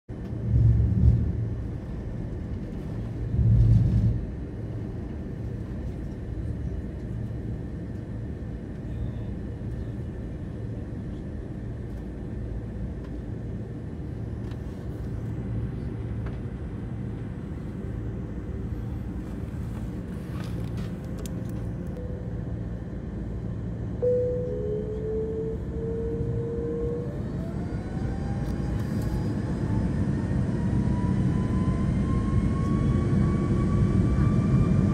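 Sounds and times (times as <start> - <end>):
jet engine and cabin rumble: 0.1 - 34.9
jet engine whine rising: 0.2 - 34.9.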